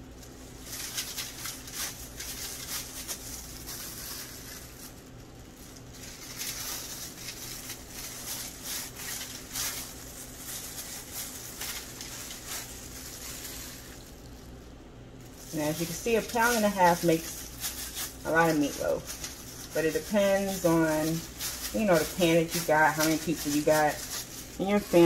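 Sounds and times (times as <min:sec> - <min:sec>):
plastic gloves and foil crinkling: 0:00.0 - 0:25.0.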